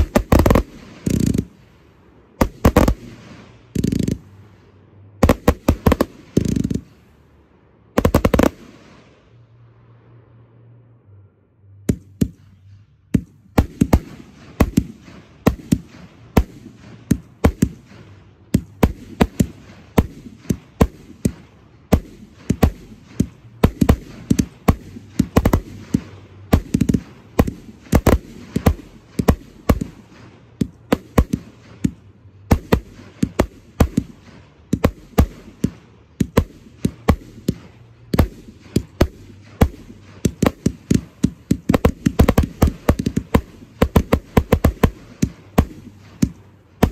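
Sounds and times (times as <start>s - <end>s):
fireworks fizzing and crackling: 0.0s - 7.2s, 8.0s - 9.2s, 13.6s - 46.9s
fireworks bursting with sharp bangs: 0.0s - 9.4s, 11.8s - 46.9s.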